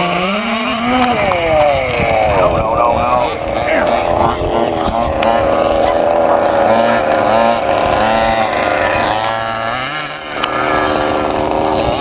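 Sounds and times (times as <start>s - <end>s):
radio-controlled car engines buzzing: 0.0s - 12.0s.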